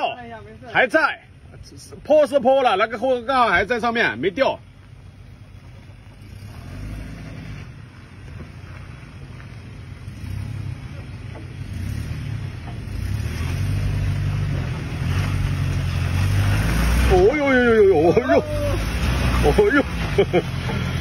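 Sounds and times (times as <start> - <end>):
suv engine running at low revs: 0.0 - 21.0.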